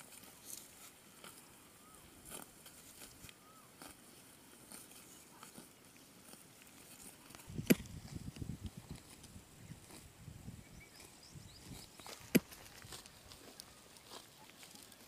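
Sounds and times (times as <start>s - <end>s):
buffalo tearing and chewing grass: 0.0s - 15.0s.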